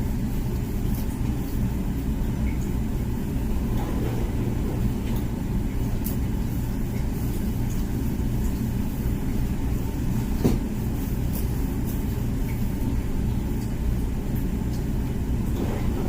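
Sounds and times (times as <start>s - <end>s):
dishwasher pump humming: 0.0s - 16.0s.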